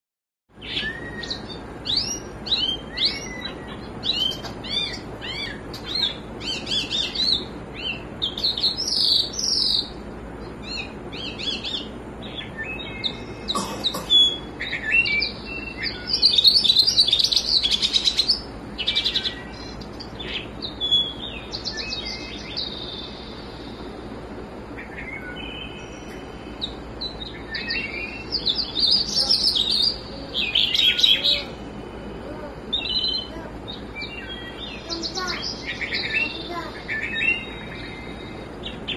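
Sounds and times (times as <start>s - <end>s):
finch chirping and trilling: 0.6s - 38.9s.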